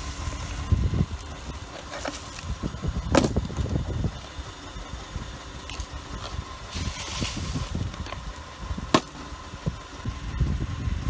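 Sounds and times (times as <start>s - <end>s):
constant low rumble: 0.0s - 11.0s.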